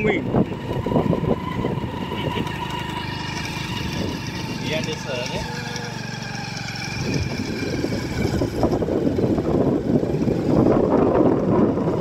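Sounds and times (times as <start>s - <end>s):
engine humming: 0.0s - 12.0s
wind buffeting microphone: 0.0s - 12.0s.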